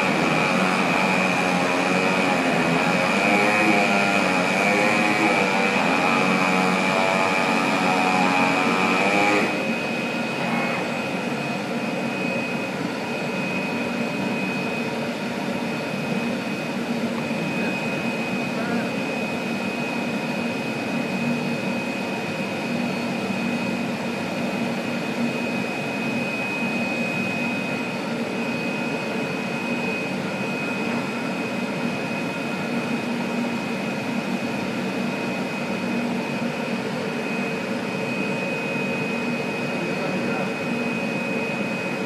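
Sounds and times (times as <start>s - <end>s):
constant high whine: 0.0s - 42.0s
cutting machine whirring hum: 0.0s - 42.0s.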